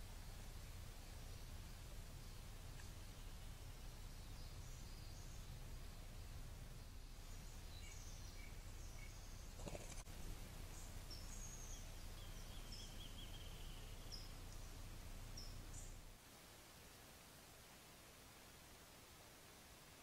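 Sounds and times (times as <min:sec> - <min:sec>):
faint songbird chirps and trill: 0:00.0 - 0:16.1
low steady rumble: 0:00.0 - 0:17.5.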